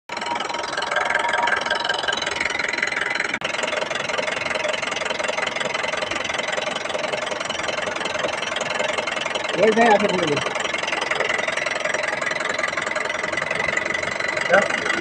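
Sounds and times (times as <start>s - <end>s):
pickup engine idling: 0.1s - 15.0s.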